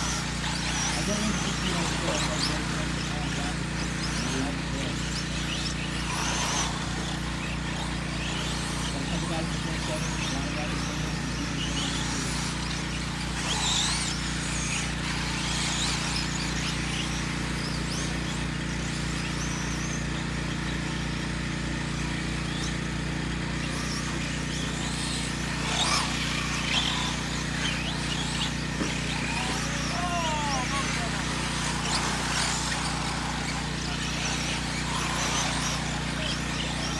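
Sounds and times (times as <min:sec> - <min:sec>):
electric motors whining: 0:00.0 - 0:36.9
steady low hum: 0:00.0 - 0:36.9.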